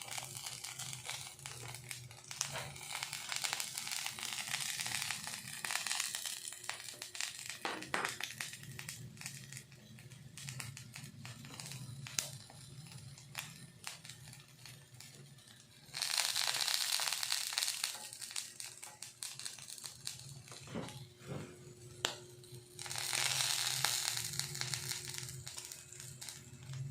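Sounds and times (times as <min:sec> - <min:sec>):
grill crackling and popping: 0:00.0 - 0:26.9.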